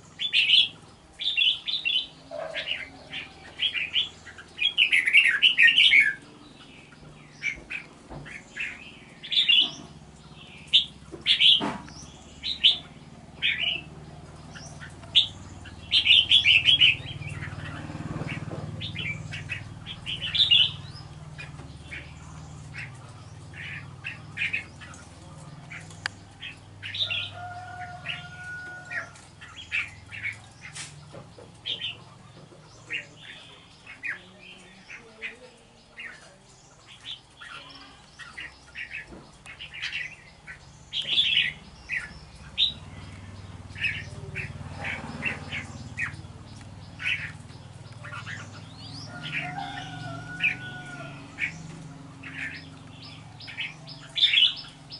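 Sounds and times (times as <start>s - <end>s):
bird chirping: 0.0s - 54.9s.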